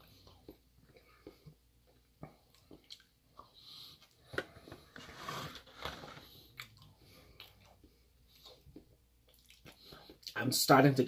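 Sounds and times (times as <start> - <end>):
person chewing: 0.0 - 10.4.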